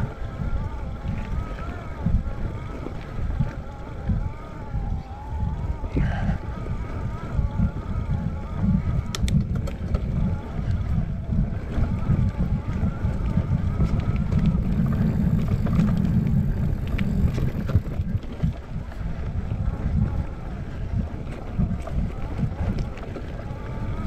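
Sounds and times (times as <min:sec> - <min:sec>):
bike tyres rumbling on trail: 0:00.0 - 0:24.0
wind buffeting microphone: 0:00.0 - 0:24.0.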